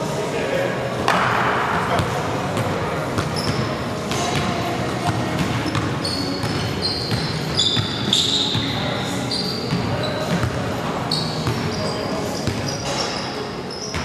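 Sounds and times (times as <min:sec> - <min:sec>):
sneakers squeaking: 0:01.9 - 0:14.0.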